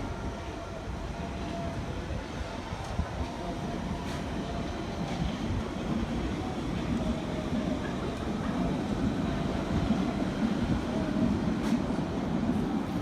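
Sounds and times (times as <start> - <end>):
train rail noise: 0.0 - 13.0.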